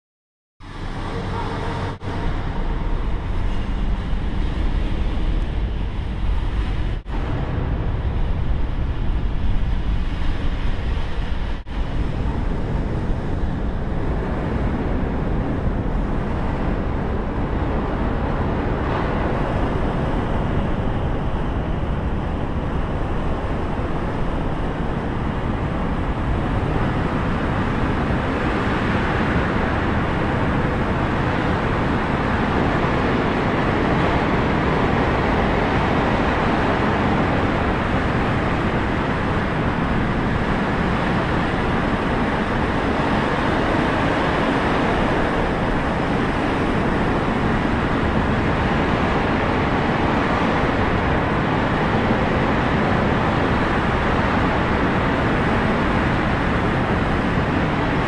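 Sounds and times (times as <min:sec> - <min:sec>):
engine and propeller drone: 0:00.6 - 0:58.0
rush of wind: 0:00.6 - 0:58.0.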